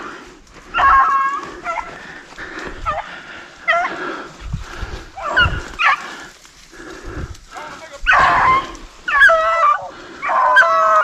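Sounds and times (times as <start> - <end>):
hounds yelping: 0.6 - 4.3, 5.1 - 7.0, 7.6 - 11.0.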